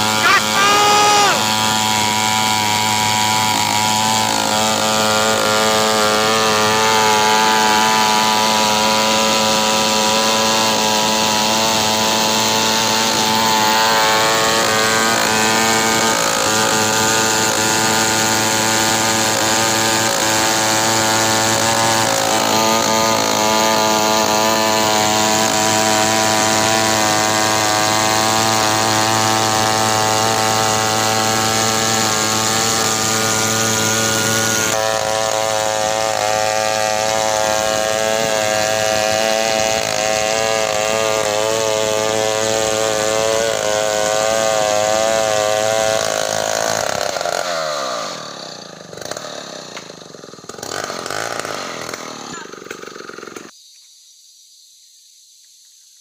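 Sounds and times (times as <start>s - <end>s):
chainsaw cutting log: 0.0s - 53.5s.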